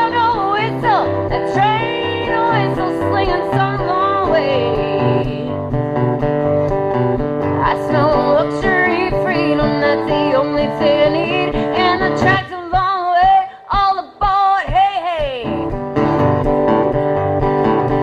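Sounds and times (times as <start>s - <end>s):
live band with guitar: 0.0s - 18.0s.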